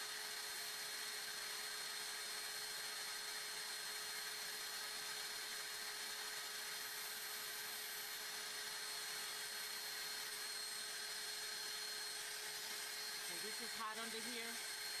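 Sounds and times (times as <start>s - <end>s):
handheld vacuum cleaner whining: 0.0s - 2.2s, 3.0s - 15.0s.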